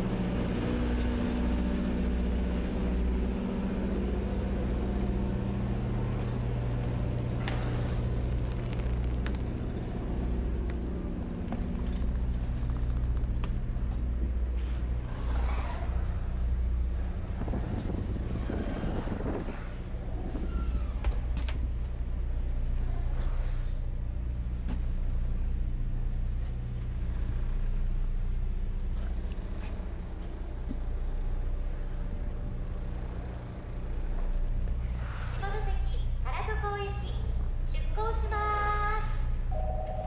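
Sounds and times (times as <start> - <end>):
ferry engine humming: 0.0 - 40.0.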